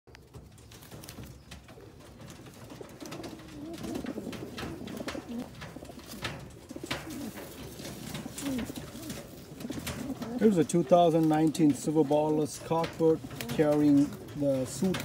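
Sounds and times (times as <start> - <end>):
pigeon cooing: 1.4 - 15.0.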